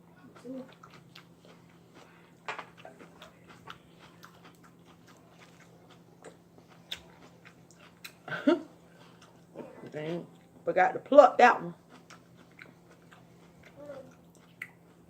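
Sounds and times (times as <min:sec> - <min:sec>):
chewing and mouth smacks: 0:00.2 - 0:08.3, 0:08.9 - 0:10.6, 0:11.8 - 0:15.0.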